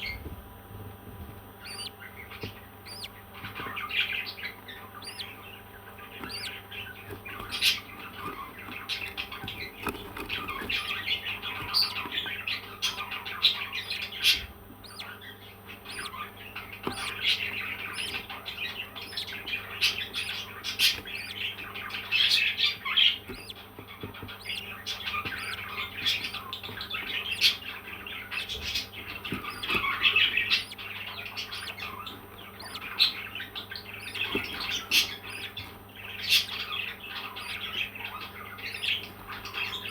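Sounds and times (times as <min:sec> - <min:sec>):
parrots chattering and squawking: 0:01.6 - 0:39.9.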